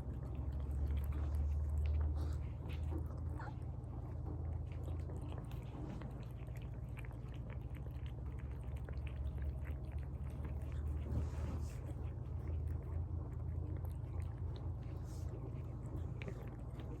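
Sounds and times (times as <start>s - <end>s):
cat chewing wetly: 0.0s - 17.0s.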